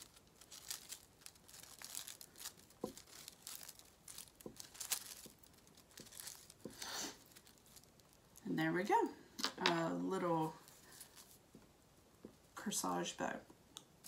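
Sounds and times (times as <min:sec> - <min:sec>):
ribbon rustling and crinkling: 0:00.0 - 0:12.5.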